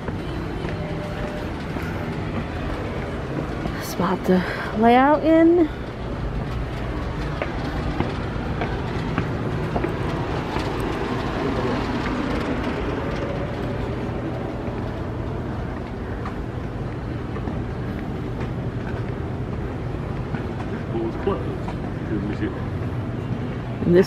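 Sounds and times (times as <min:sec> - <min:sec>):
faint footsteps: 0:00.0 - 0:24.0
low mechanical hum: 0:00.0 - 0:24.0.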